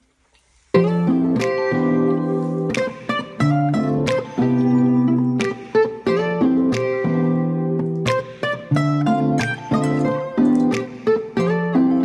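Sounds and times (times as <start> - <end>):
plucked string instrumental music: 0.7 - 12.0.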